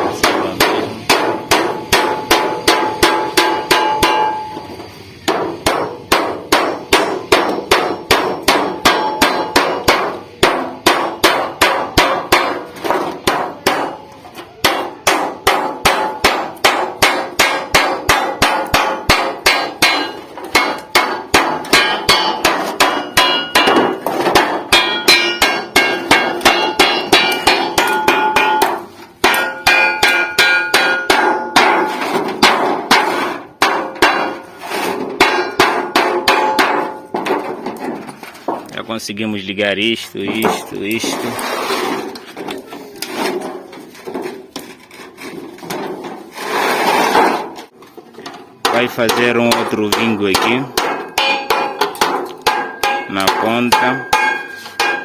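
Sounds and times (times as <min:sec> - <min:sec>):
hammer striking sheet metal: 0:00.0 - 0:38.7, 0:48.6 - 0:55.0.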